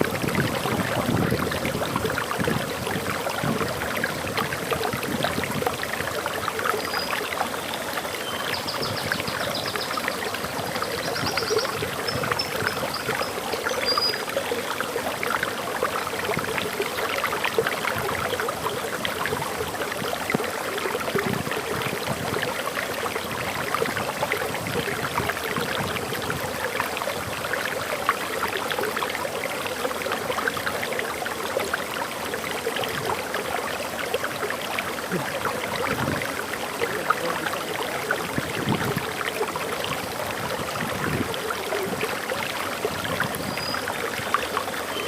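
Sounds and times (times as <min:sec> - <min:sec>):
waterfall pouring and splashing: 0:00.0 - 0:45.0.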